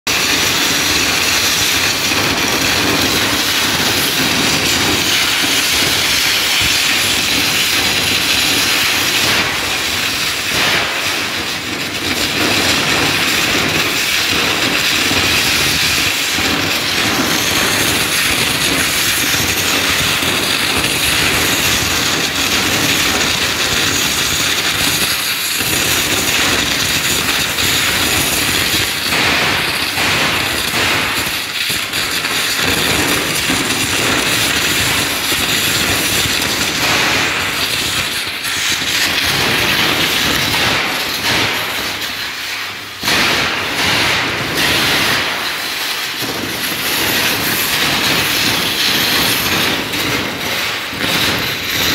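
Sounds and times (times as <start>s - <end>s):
water jet hissing on concrete: 0.1s - 51.9s.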